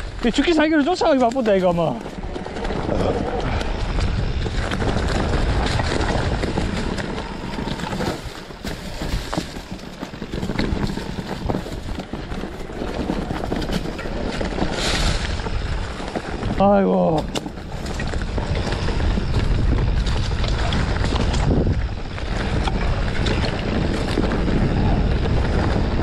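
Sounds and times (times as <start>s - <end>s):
bike rattling and clattering: 0.0s - 26.0s
wind rushing over microphone: 0.0s - 26.0s.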